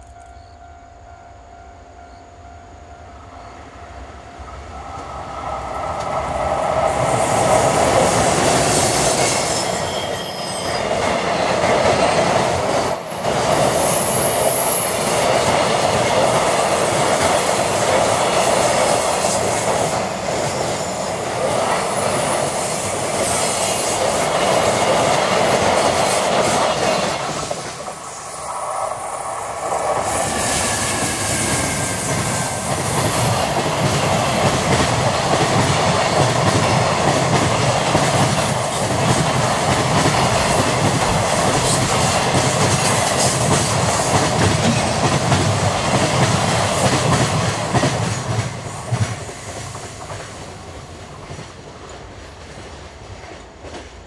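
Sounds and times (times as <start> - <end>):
train wheels clickety-clack: 4.8 - 54.0.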